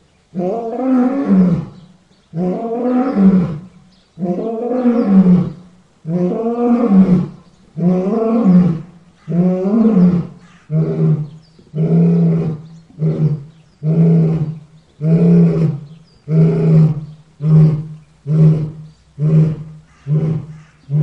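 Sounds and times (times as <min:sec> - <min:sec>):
lion roaring: 0:02.4 - 0:21.0.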